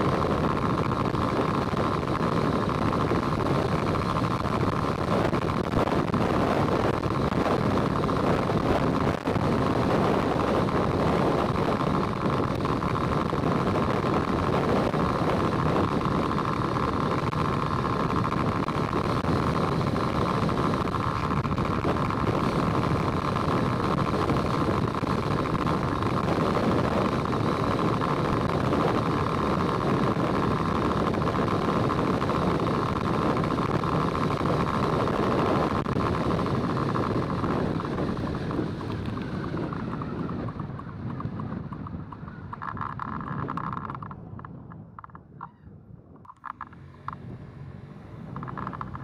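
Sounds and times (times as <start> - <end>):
mid-pitched hum: 0.0 - 49.0
vehicle road and wind noise: 0.0 - 49.0.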